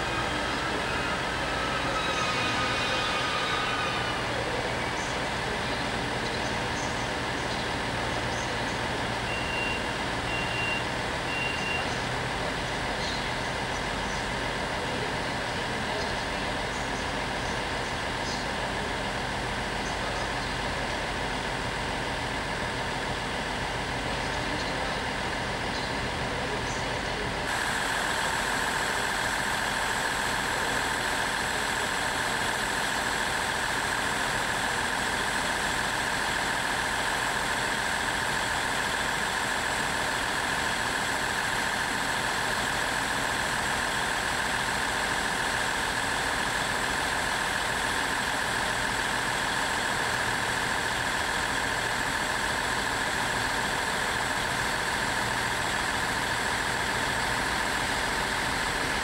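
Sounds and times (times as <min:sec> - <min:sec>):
train diesel engine drone: 0:00.0 - 0:59.0.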